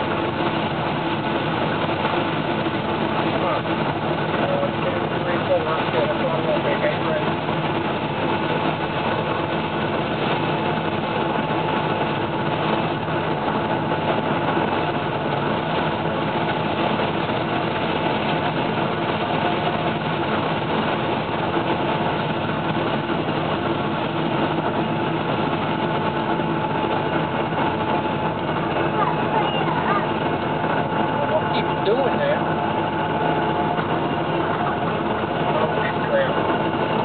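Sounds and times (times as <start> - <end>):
combine engine and machinery drone: 0.0 - 37.0
steady machinery whine: 0.0 - 37.0.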